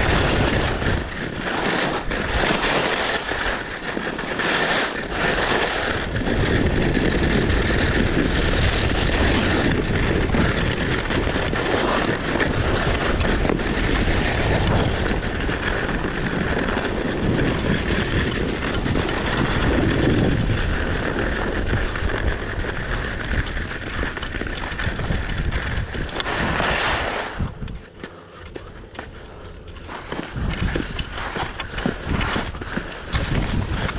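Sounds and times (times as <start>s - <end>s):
skis scraping over snow: 0.0s - 33.9s
wind buffeting microphone: 0.0s - 33.9s.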